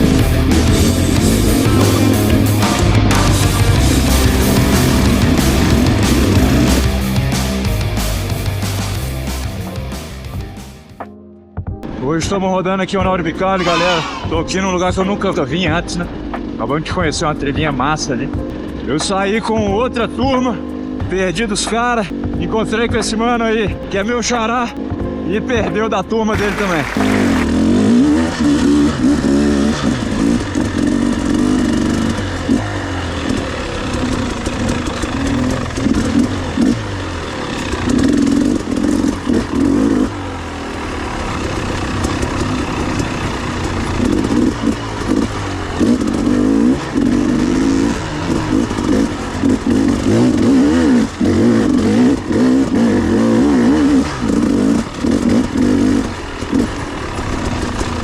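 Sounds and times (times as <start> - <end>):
motorcycle engine revving: 0.0 - 11.0, 12.9 - 58.0.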